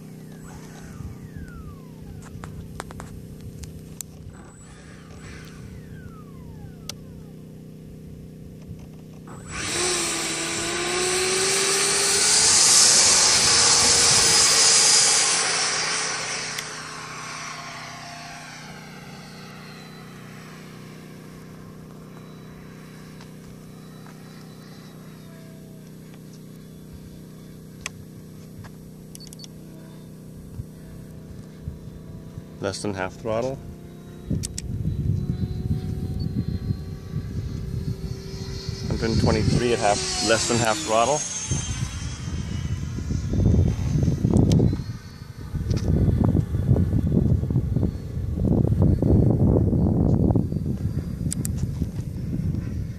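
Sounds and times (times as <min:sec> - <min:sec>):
electric ducted fan whine: 0:00.0 - 0:52.9
steady low hum: 0:00.0 - 0:52.9.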